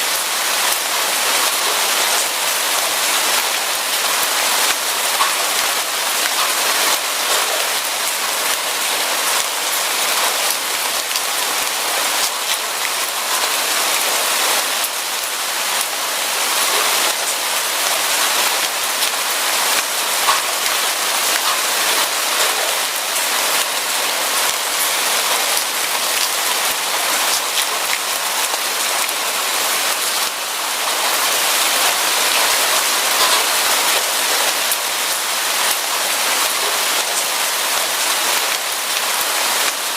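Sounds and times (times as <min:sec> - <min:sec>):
steady rain: 0:00.0 - 0:39.9
raindrops ticking: 0:00.1 - 0:16.0, 0:17.8 - 0:29.2, 0:31.5 - 0:37.2.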